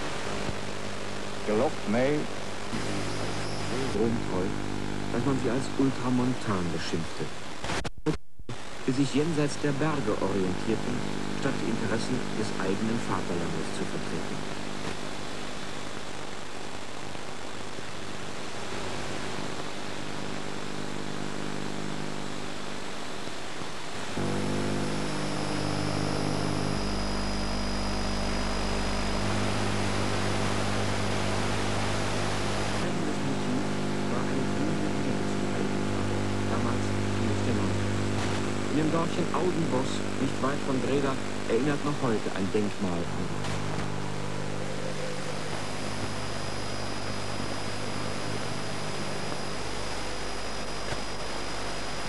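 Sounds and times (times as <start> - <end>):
buzzing interference hum: 0.0 - 52.0
high steady whine: 0.0 - 52.0
tv signal hiss: 0.0 - 52.0.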